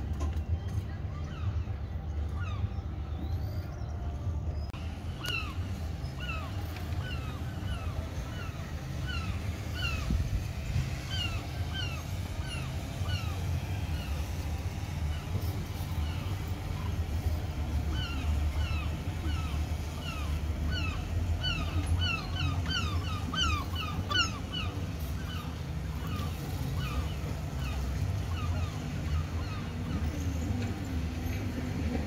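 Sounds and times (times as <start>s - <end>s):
gulls calling: 0.0s - 32.0s.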